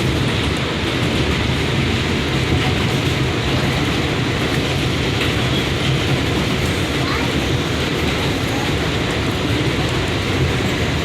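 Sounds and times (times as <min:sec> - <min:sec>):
subway train wheels rumbling on rails: 0:00.0 - 0:11.0.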